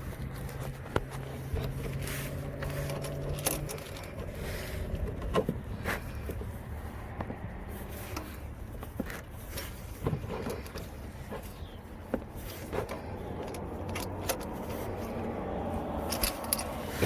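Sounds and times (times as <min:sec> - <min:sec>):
wrench clicking and scraping metal: 0:00.0 - 0:06.6, 0:07.9 - 0:11.7, 0:12.4 - 0:17.0.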